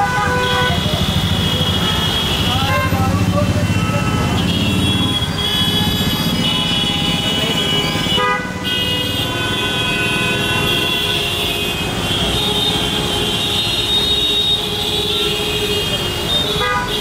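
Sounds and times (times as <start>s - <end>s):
rumble of engines: 0.0s - 17.0s
vehicle horns honking: 0.0s - 17.0s.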